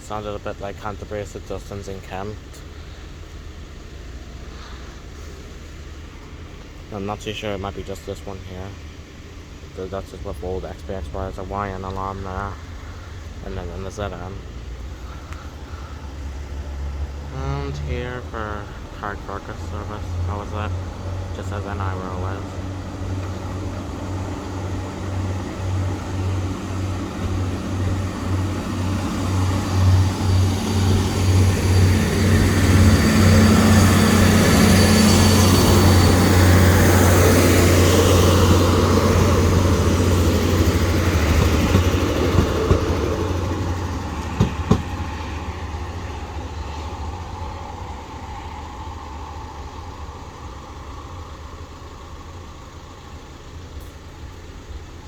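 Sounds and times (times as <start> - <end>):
diesel train passing: 0.0 - 55.0.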